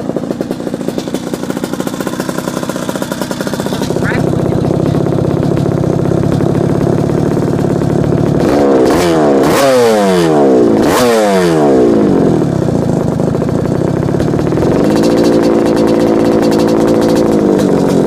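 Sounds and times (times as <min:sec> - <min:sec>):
motocross engine idling and revving: 0:00.0 - 0:18.0.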